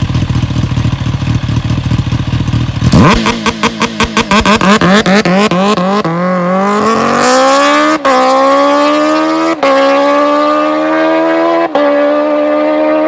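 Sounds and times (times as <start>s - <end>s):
motorcycle engine accelerating hard: 0.0s - 13.0s.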